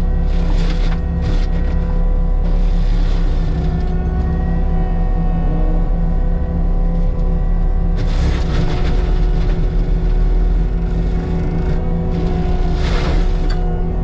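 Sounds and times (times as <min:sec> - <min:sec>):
heavy diesel machine rumbling: 0:00.0 - 0:14.0.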